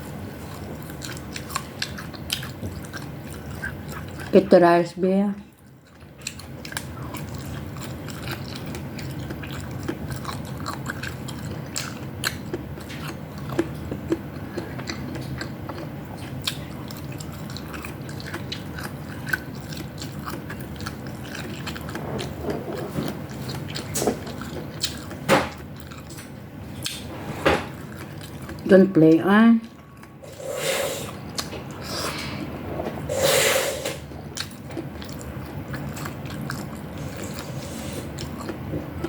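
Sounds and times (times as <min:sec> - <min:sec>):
chewing and biting: 0:00.0 - 0:04.4, 0:05.5 - 0:27.0, 0:27.7 - 0:28.7, 0:34.1 - 0:39.0
steady low hum: 0:00.0 - 0:39.0.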